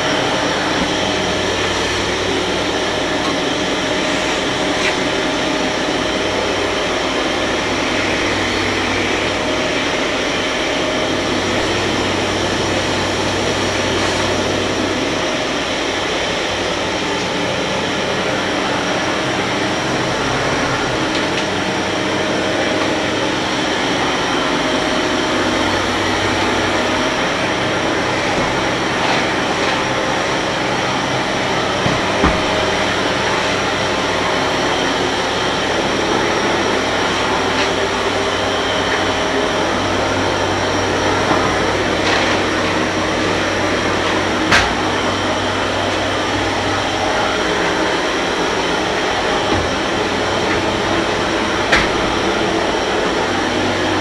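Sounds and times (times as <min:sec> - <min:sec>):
vacuum cleaner motor rushing: 0:00.0 - 0:54.0.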